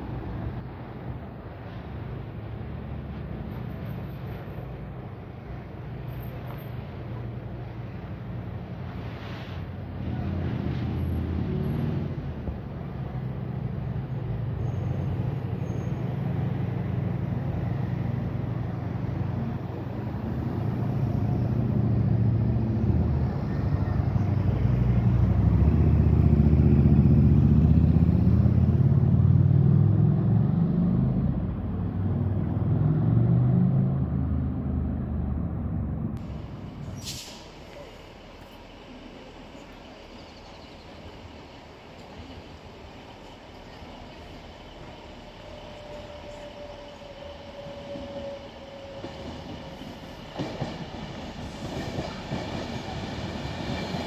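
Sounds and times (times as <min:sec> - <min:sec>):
bus diesel engine pulling away: 0:00.0 - 0:54.0
road traffic: 0:00.0 - 0:54.0.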